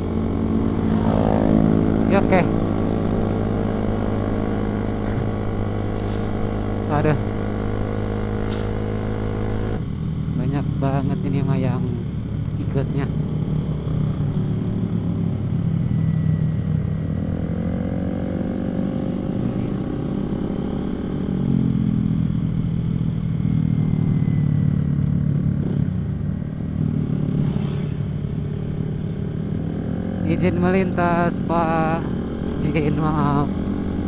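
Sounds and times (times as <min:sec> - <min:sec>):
low wind rumble: 0:00.0 - 0:34.0
motorcycle engine revving: 0:00.0 - 0:34.0.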